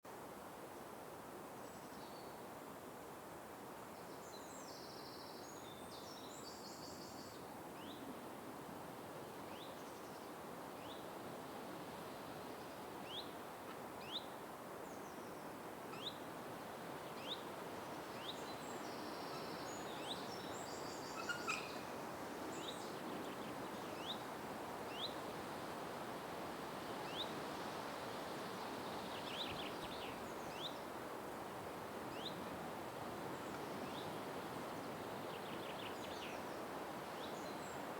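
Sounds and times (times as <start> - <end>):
steady background hiss: 0.1 - 37.9.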